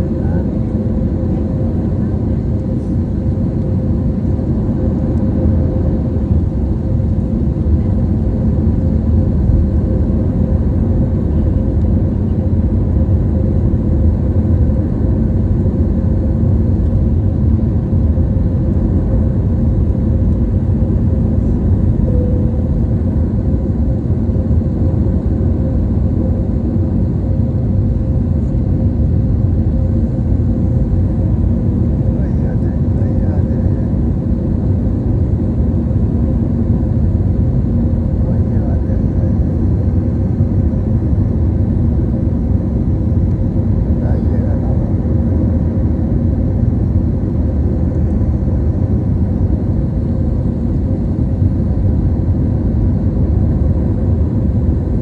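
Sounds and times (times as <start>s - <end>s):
airliner cabin engine drone: 0.0s - 55.0s.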